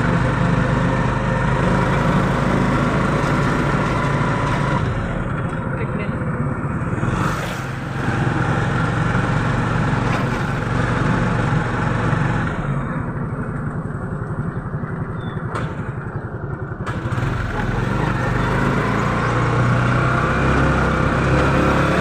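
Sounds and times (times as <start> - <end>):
motorcycle engine running: 0.0 - 22.0
wind and road rush: 0.0 - 22.0.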